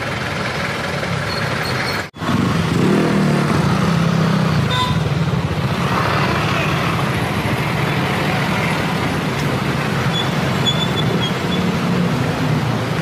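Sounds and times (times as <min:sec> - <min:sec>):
motorcycle engines: 0:00.0 - 0:13.0
car engines passing: 0:00.8 - 0:13.0.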